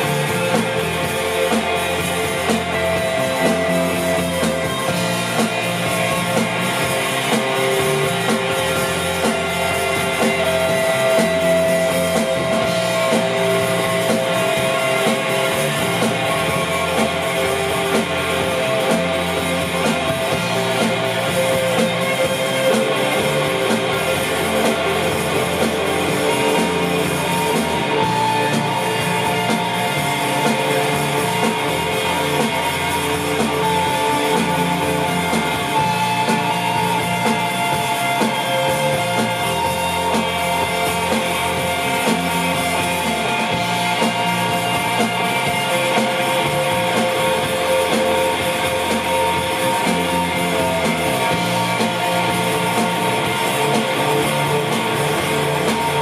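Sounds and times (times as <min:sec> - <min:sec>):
drum kit: 0:00.0 - 0:56.0
electric guitars: 0:00.0 - 0:56.0.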